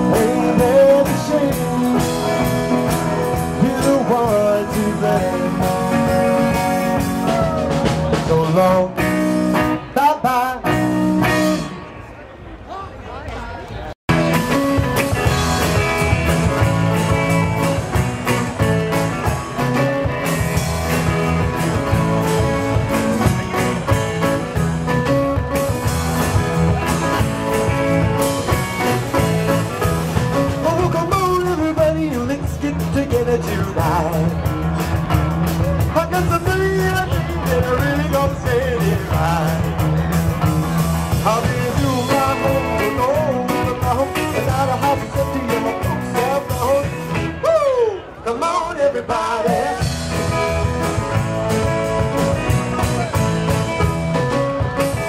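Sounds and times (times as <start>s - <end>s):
rock and roll band playing: 0.0s - 12.0s, 14.1s - 55.0s.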